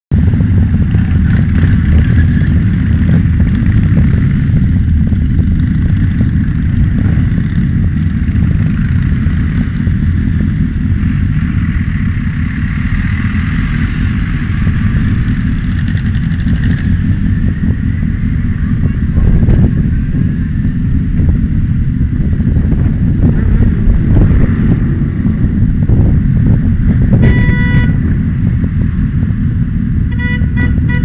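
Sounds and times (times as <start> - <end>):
motorcycle engine rumbling: 0.1 - 31.0.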